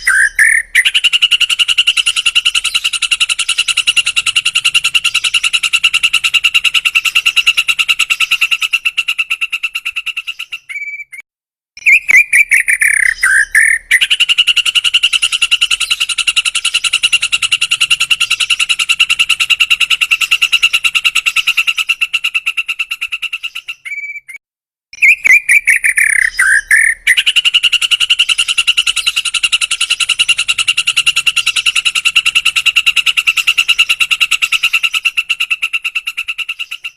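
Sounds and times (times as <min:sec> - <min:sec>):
bird rattling trill: 0:00.0 - 0:10.9, 0:12.5 - 0:24.1, 0:25.5 - 0:36.9.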